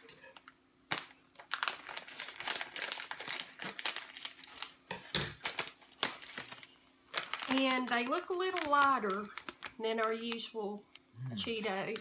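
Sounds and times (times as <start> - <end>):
snack bag rustling and crackling: 0.0 - 11.1.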